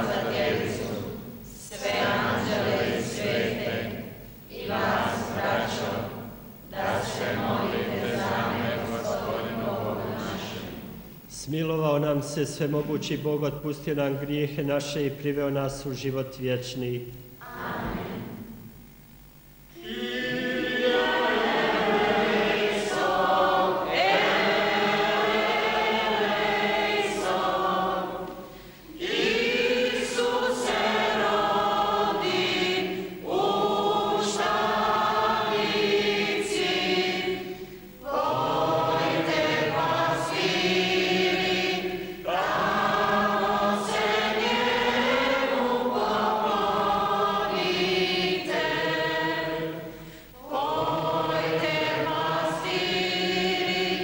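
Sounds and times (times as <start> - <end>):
congregation singing: 0.0 - 54.0.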